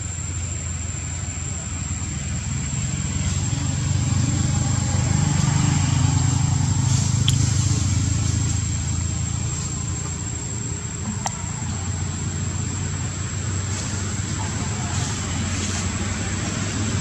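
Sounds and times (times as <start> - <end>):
motor engine droning: 0.0 - 17.0.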